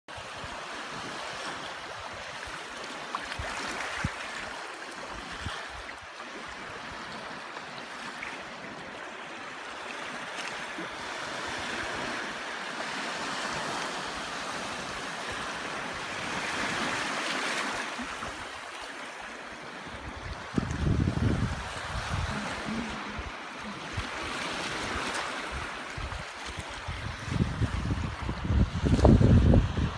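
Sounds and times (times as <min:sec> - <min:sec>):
waves breaking: 0:00.1 - 0:29.9.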